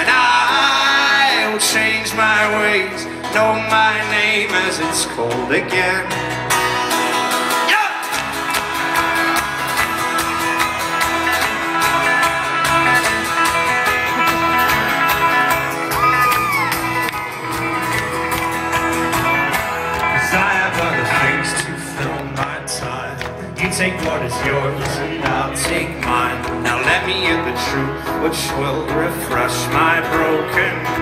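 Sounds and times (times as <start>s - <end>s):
folk-rock band playing: 0.0s - 31.0s
strummed acoustic strings: 0.0s - 31.0s.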